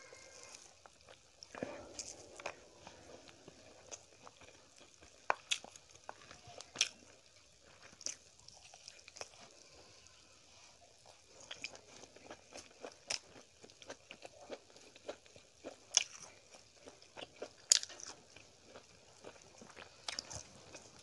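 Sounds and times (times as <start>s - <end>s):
chewing and biting food: 0.1s - 9.6s, 11.0s - 21.0s.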